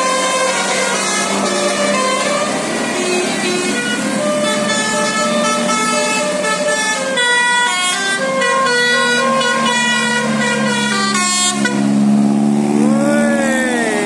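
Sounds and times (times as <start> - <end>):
multi-tone bus air horn melody: 0.0 - 12.3.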